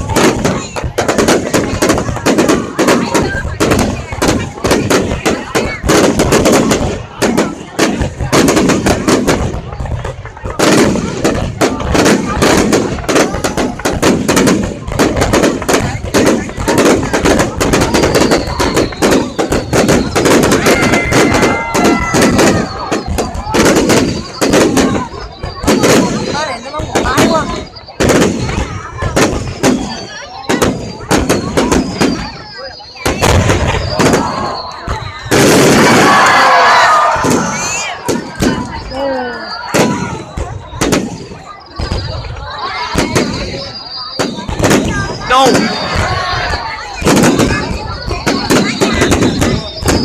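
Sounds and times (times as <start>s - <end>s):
crowd voices: 0.0s - 50.0s
fireworks bursting: 0.0s - 50.0s.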